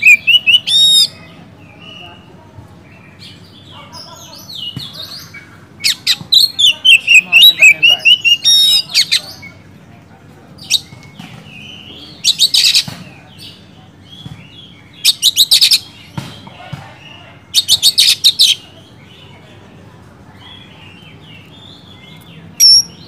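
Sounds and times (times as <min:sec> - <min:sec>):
bird singing: 0:00.0 - 0:23.0.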